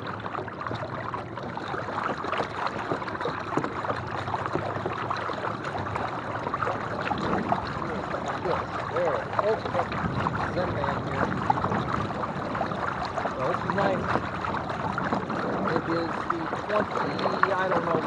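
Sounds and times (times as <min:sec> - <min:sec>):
water rushing along kayak hull: 0:00.0 - 0:18.0.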